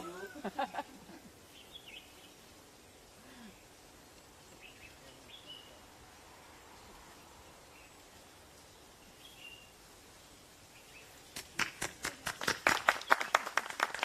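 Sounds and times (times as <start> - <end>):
faint birds chirping: 0.0 - 11.6
low steady hiss: 0.0 - 14.0.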